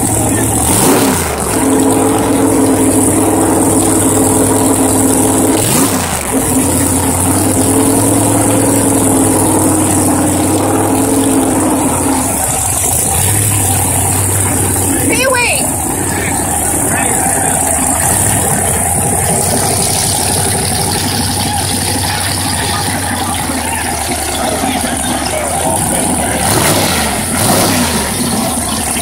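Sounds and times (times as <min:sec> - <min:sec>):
race car engine running: 0:00.0 - 0:29.0.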